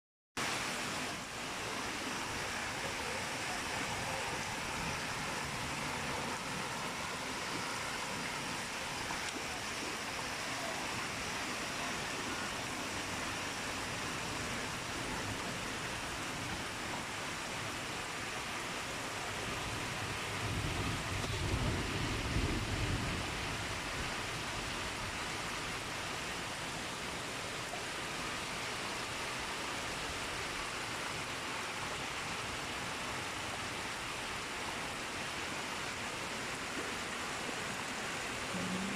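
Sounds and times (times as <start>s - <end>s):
heavy rain: 0.4s - 38.9s.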